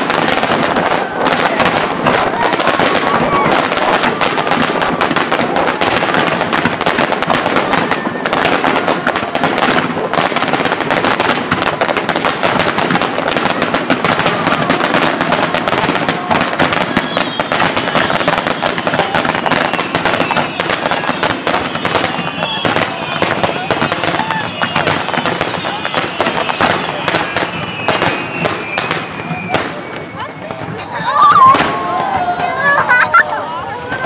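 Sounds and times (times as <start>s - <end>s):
fireworks bursting and crackling: 0.0s - 34.0s.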